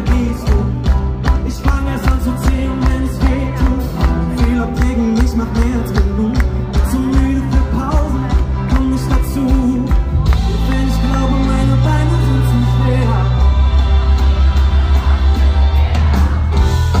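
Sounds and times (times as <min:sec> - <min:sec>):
drums beating: 0:00.0 - 0:17.0
live pop band: 0:00.0 - 0:17.0
person singing: 0:00.0 - 0:17.0.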